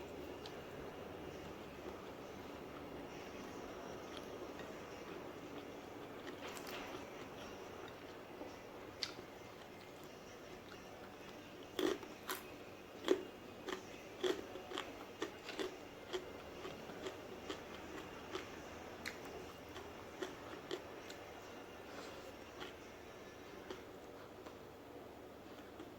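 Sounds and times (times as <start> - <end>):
chewing crunchy fried food: 0.2 - 8.2, 8.9 - 21.3, 21.9 - 24.6.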